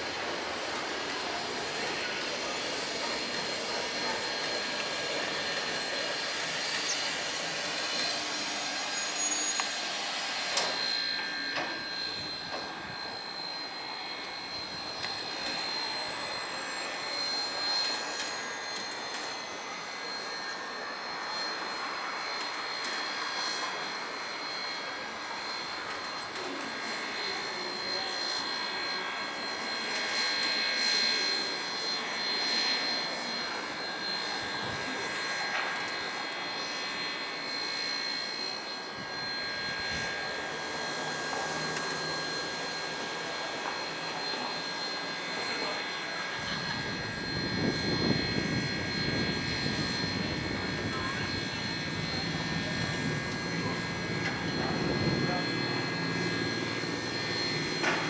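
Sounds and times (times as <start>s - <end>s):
faint falling whine: 0.0s - 58.0s.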